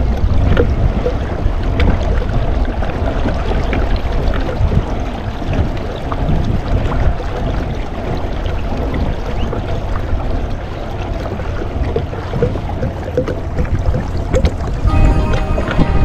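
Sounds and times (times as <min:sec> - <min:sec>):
water splashing along kayak hull: 0:00.0 - 0:16.0
wind rumbling on microphone: 0:00.0 - 0:16.0.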